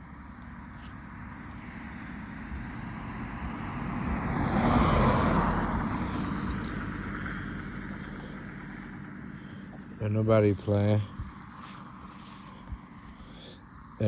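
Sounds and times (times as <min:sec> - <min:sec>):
car driving past: 0:00.1 - 0:14.0.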